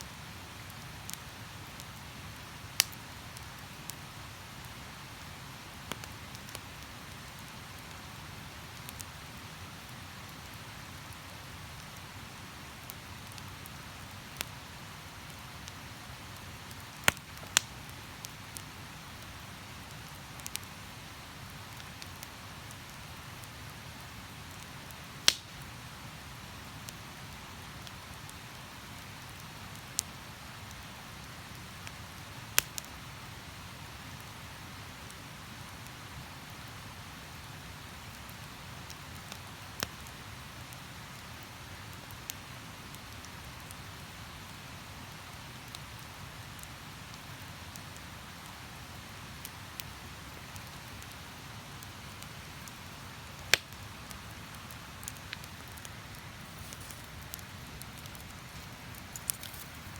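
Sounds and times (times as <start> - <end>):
campfire crackling and popping: 0.2 - 59.9.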